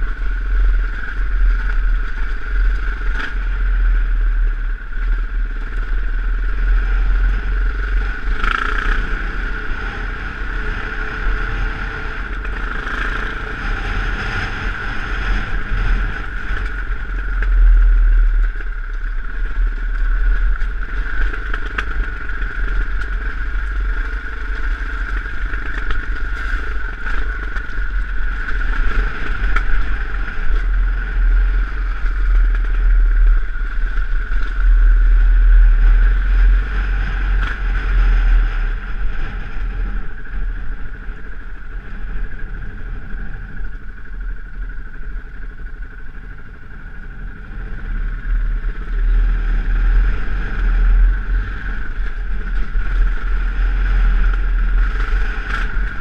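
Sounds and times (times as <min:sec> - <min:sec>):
dirt bike engine running: 0:00.0 - 0:56.0
wind rumble on microphone: 0:00.0 - 0:56.0.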